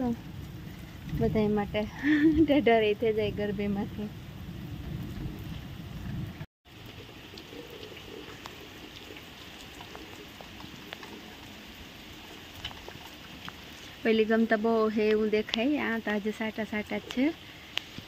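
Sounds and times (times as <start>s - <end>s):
light rain: 0.0s - 18.0s.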